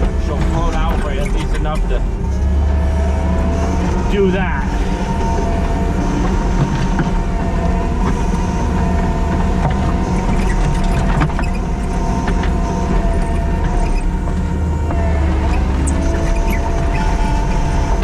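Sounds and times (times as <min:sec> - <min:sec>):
diesel engine running: 0:00.0 - 0:18.0
steady whine: 0:00.0 - 0:18.0.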